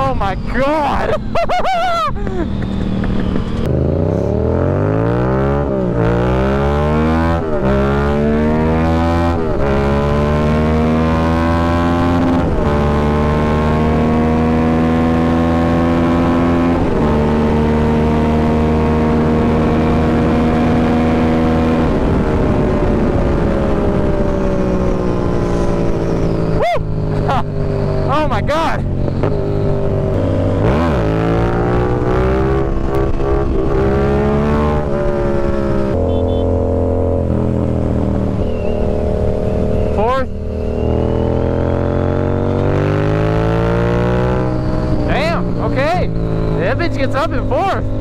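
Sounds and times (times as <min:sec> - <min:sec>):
motorcycle engine accelerating: 0:00.0 - 0:48.0
wind noise: 0:00.0 - 0:48.0.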